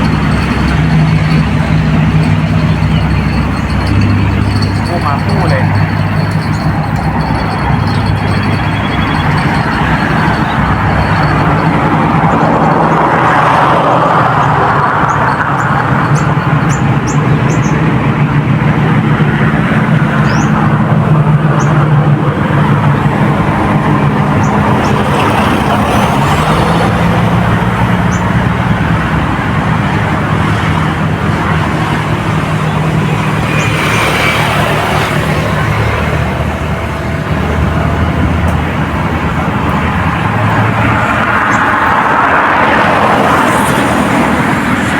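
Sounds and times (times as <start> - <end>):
motor engine humming: 0.0 - 44.9.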